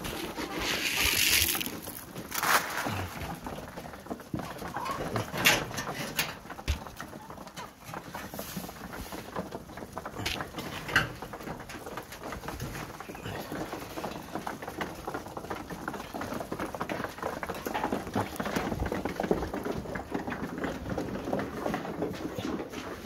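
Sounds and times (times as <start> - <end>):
chickens clucking and cooing: 2.9 - 23.0.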